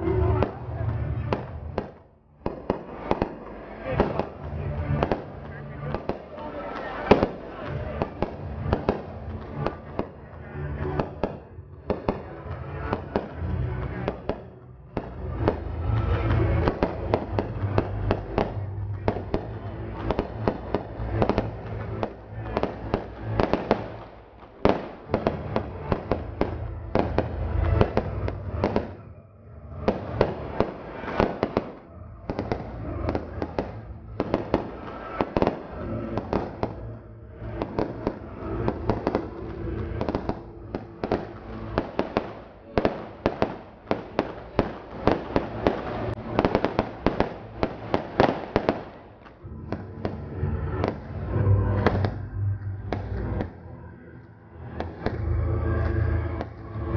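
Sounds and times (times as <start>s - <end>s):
fireworks bangs and crackle: 0.0s - 29.1s, 29.7s - 53.6s, 54.6s - 56.9s.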